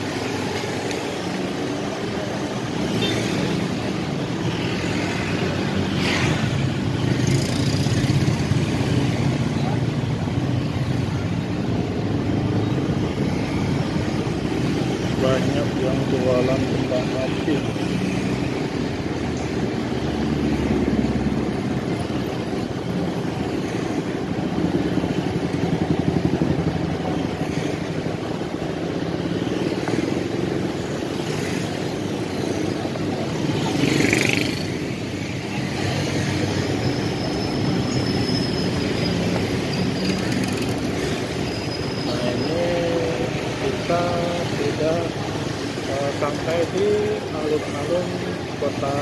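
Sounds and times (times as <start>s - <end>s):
road noise: 0.0s - 49.0s.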